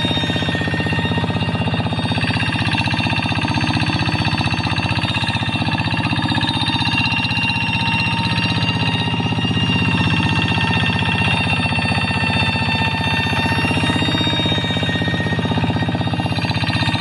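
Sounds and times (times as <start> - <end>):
single-cylinder diesel engine running: 0.0 - 17.0.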